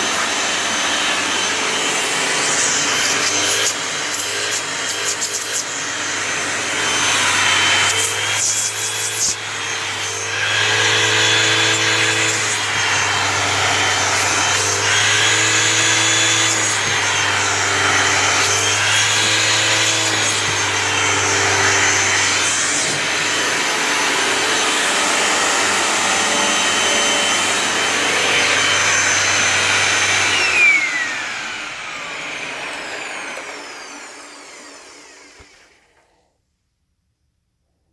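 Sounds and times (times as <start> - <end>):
upright vacuum running: 0.0 - 36.3.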